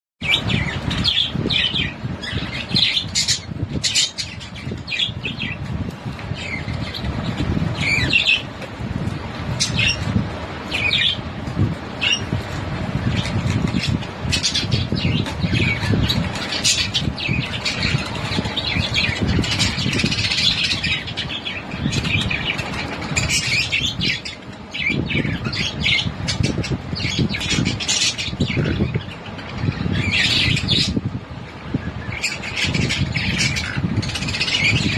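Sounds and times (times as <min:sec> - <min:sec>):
steady low rumble: 0:00.2 - 0:34.9.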